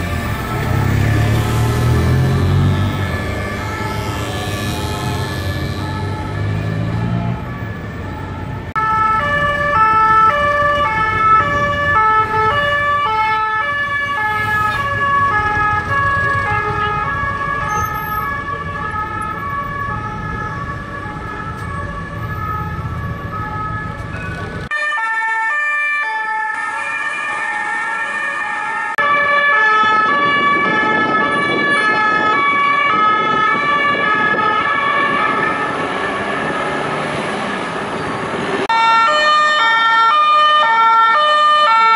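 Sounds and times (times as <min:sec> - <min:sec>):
police two-tone sirens: 0:00.0 - 0:37.7, 0:38.6 - 0:41.9
city traffic: 0:00.0 - 0:41.9.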